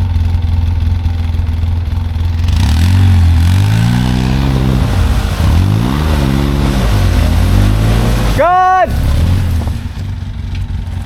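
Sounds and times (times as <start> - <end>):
utility vehicle engine revving: 2.0 - 11.0.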